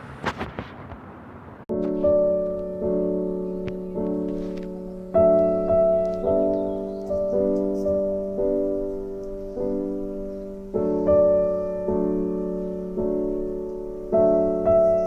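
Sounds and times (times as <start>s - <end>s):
slow piano chords: 1.6s - 15.0s.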